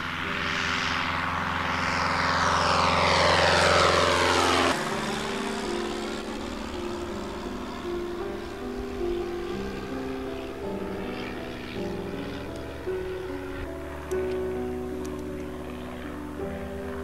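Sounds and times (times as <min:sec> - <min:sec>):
propeller plane passing overhead: 0:00.0 - 0:17.0.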